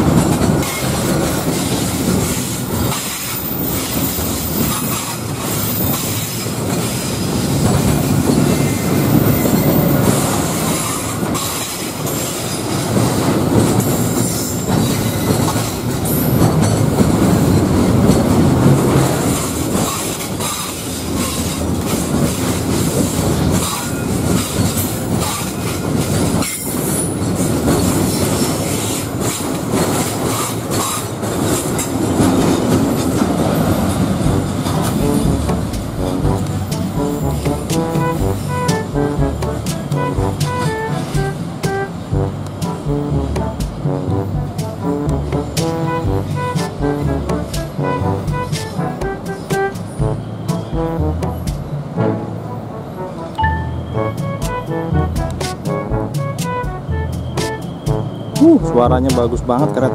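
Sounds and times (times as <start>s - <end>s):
wheels clicking over rail joints: 0.0s - 50.0s
train wheels rumbling on rails: 0.0s - 59.9s.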